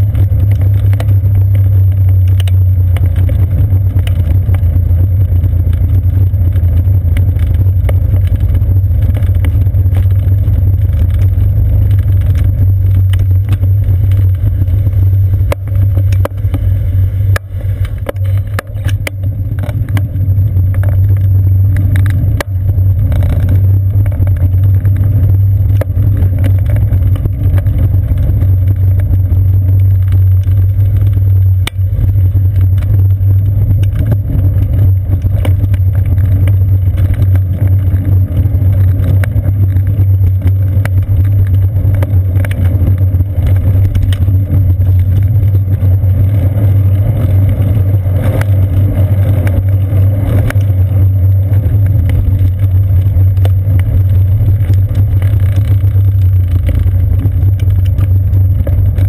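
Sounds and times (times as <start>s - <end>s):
low rumble of riding noise: 0.0s - 59.0s.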